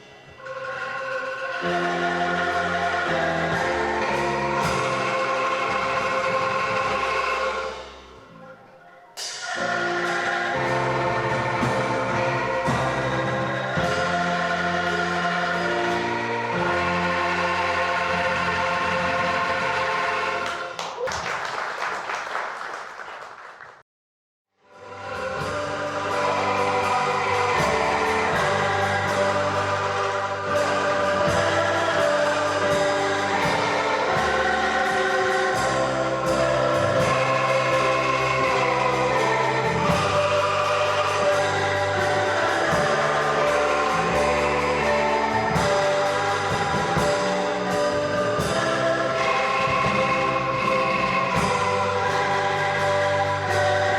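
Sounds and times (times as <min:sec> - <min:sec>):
angklung ensemble music: 0:00.0 - 0:20.7, 0:24.8 - 0:53.9.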